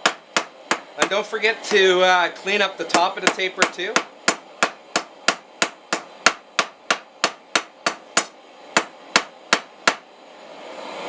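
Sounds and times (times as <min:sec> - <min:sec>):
hammer striking steel on anvil: 0:00.0 - 0:01.8, 0:02.9 - 0:10.0.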